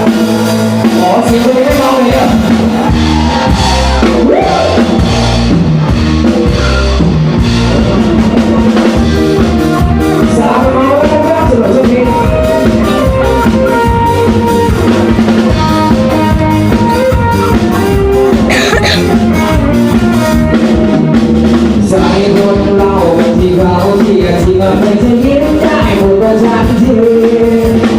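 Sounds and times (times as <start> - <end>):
band music played loud: 0.0 - 27.9
drum kit beat: 0.0 - 27.9.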